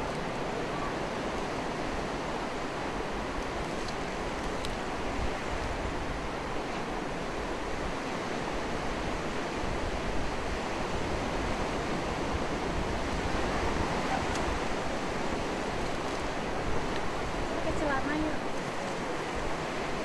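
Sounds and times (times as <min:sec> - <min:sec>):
ocean surf rushing on shore: 0:00.0 - 0:20.0.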